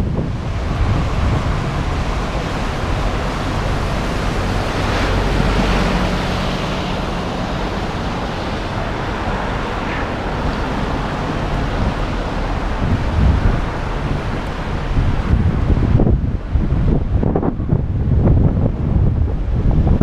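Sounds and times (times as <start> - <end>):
bicycle riding on wet road: 0.0 - 20.0
wind buffeting microphone: 0.0 - 20.0.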